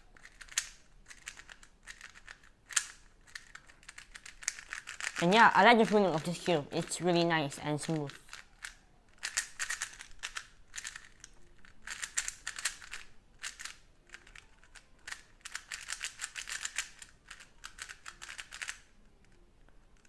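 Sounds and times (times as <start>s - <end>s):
puzzle cube plastic clicks: 0.0s - 20.0s.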